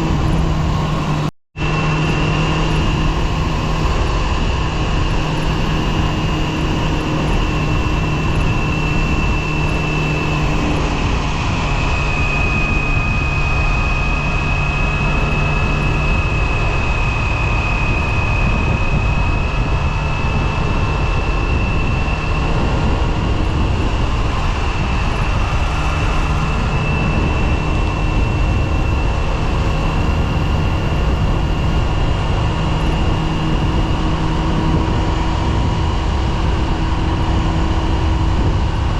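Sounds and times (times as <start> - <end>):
motorcycle engine whining: 0.0 - 38.9
wind noise: 0.0 - 38.9.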